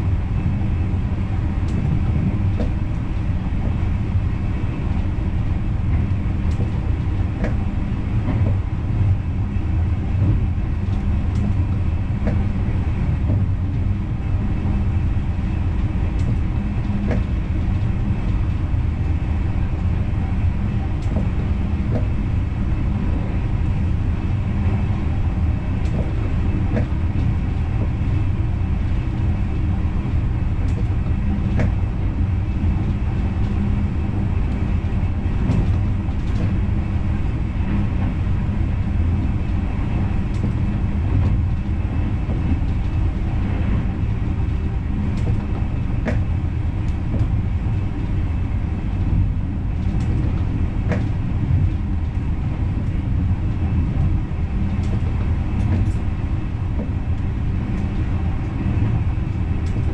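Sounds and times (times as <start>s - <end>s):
train rumbling along track: 0.0s - 59.9s.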